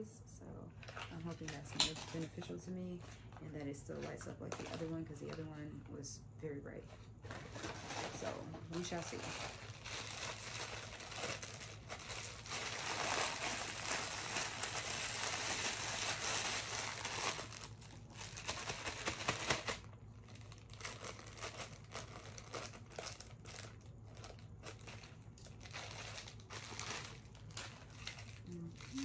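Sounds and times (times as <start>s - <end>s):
plastic bag crinkling: 0.8s - 5.6s, 6.8s - 29.0s.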